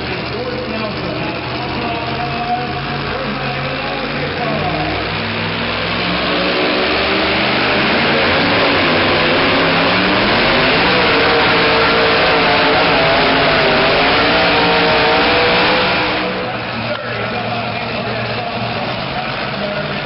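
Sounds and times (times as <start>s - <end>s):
truck engine at high revs: 0.0s - 20.0s.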